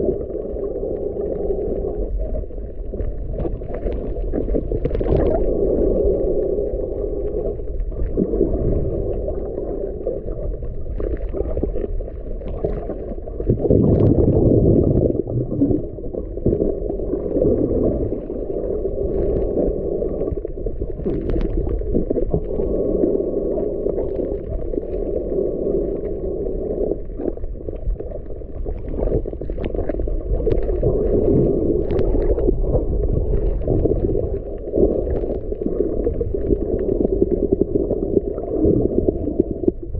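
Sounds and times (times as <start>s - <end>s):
faint crackling clicks: 0.0s - 39.9s
underwater rumble and sloshing: 0.0s - 39.9s.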